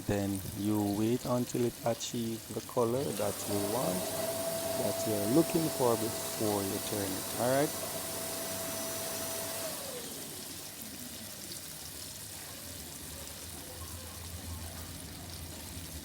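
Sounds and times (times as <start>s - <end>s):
wings frying in oil: 0.0s - 16.0s.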